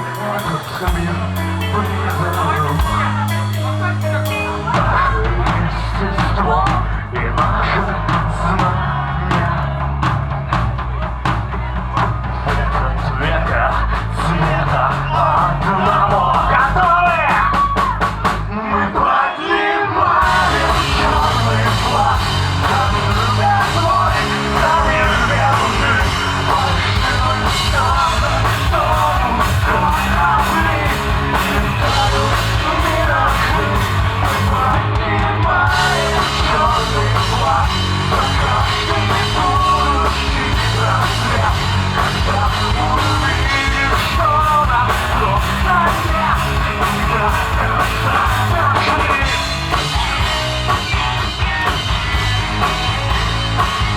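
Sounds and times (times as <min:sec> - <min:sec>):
person singing and shouting: 0:00.0 - 0:10.1, 0:12.0 - 0:51.7
live rock band playing: 0:00.0 - 0:19.2, 0:19.9 - 0:53.9.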